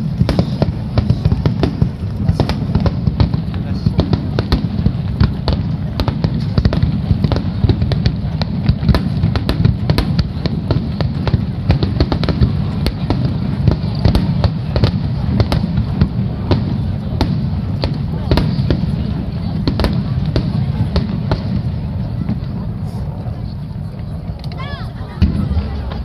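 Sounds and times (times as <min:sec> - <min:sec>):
fireworks crackling pops: 0:00.0 - 0:26.0
fireworks rumbling: 0:00.0 - 0:26.0.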